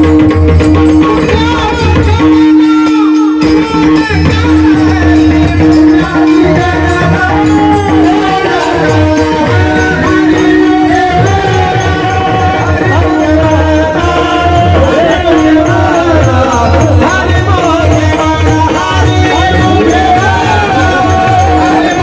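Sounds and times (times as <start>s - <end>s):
percussion steady beat: 0.0s - 22.0s.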